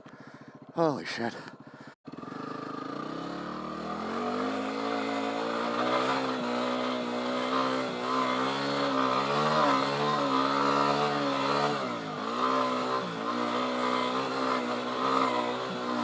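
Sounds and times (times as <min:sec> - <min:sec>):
dirt bike engine revving: 0:00.3 - 0:16.0.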